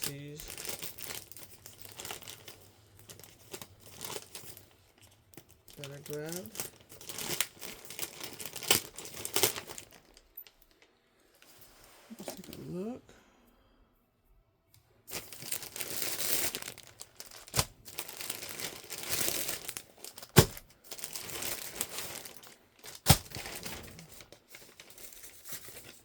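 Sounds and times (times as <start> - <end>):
packaging crinkling and tearing: 0.0 - 10.9, 15.1 - 26.0.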